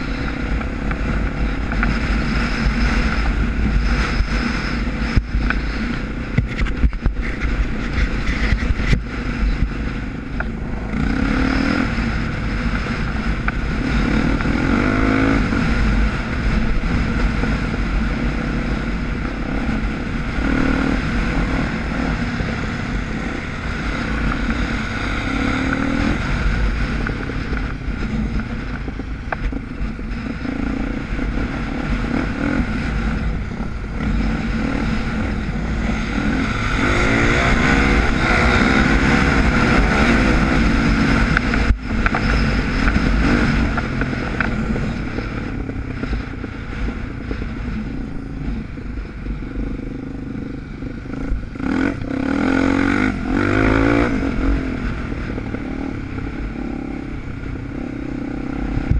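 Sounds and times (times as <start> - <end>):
dirt bike engine revving: 0.0 - 48.6, 49.5 - 58.9.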